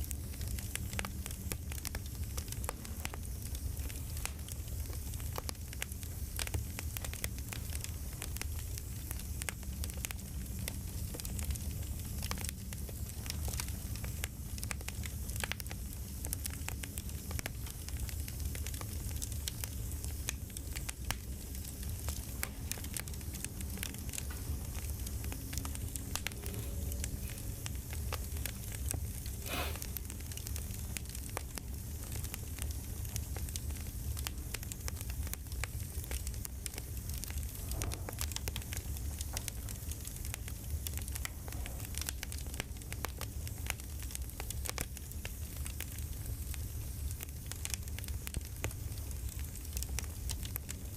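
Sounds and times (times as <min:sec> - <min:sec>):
steady low rumble: 0:00.0 - 0:44.5
wood fire crackling: 0:00.0 - 0:50.9.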